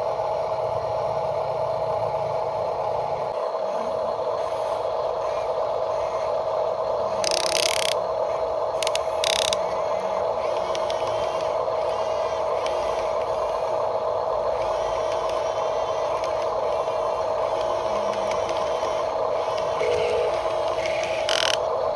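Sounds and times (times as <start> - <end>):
electric motor whining: 3.4 - 6.4, 7.1 - 21.8.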